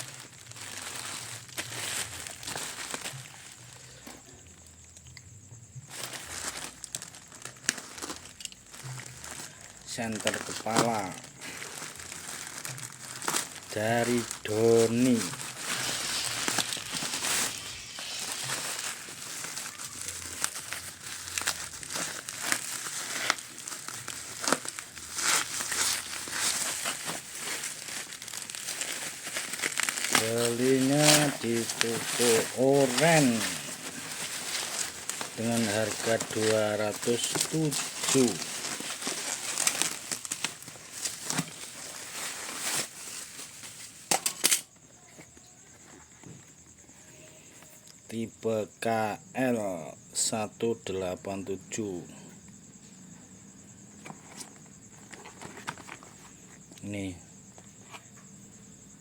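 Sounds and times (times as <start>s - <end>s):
packaging crinkling and rustling: 0.0s - 4.4s, 5.8s - 46.7s, 53.7s - 56.8s.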